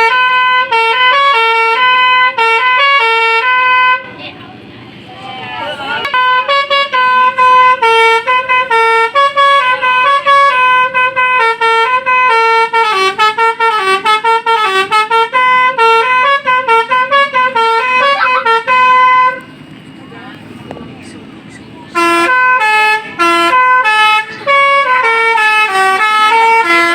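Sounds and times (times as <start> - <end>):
multi-tone bus air horn melody: 0.0 - 4.4, 5.6 - 19.6, 21.5 - 26.9.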